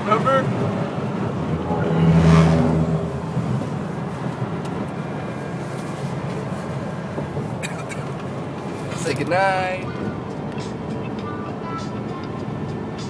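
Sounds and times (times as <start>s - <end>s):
road and engine noise inside car: 0.0s - 13.0s.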